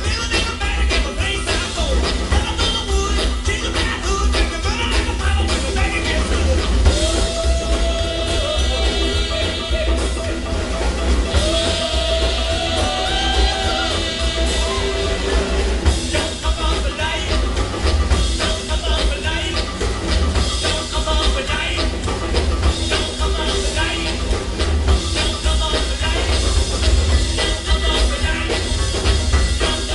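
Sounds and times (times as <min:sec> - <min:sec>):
rockabilly band playing: 0:00.0 - 0:29.9.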